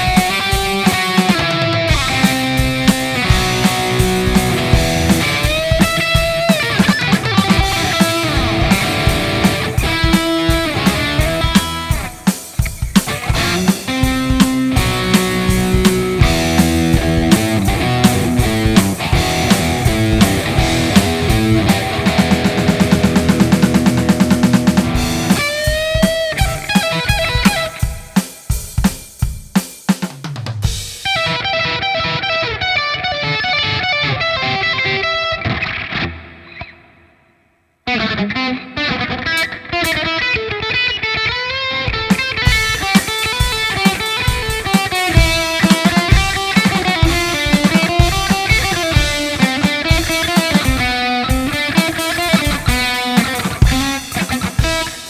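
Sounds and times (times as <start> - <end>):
drum kit: 0.0 - 31.6, 39.4 - 40.2, 41.9 - 55.0
guitar: 0.0 - 55.0.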